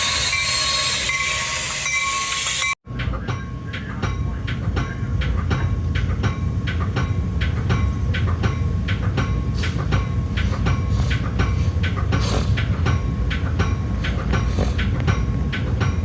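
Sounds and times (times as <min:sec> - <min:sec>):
rail car rumble: 0:00.0 - 0:16.0
train wheels clicking over rail joints: 0:00.0 - 0:16.0.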